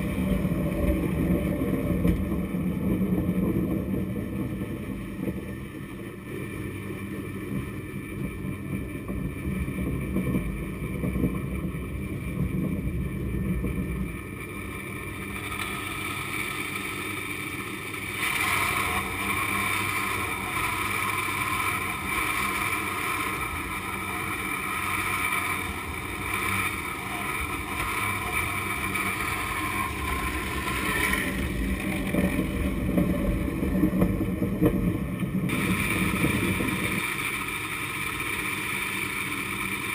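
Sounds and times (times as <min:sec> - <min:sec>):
cable mechanical rumble: 0:00.0 - 0:39.9
steady high whine: 0:00.0 - 0:39.9.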